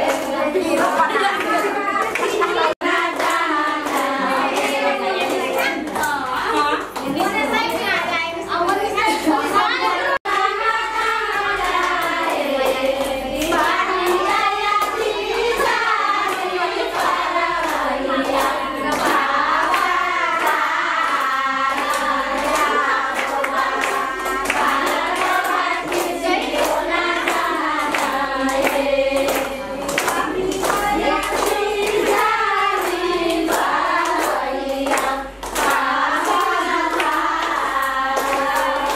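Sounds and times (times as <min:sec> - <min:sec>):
group of people singing: 0:00.0 - 0:07.6, 0:08.9 - 0:38.9
hand-clapping: 0:00.0 - 0:07.9, 0:10.2 - 0:38.9.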